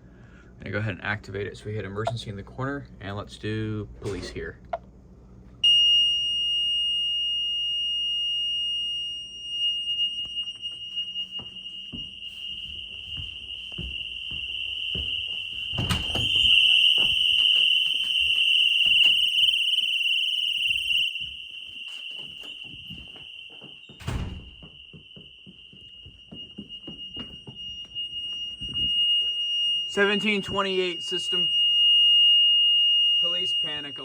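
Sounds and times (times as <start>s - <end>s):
high-pitched alarm tone: 5.6s - 34.0s.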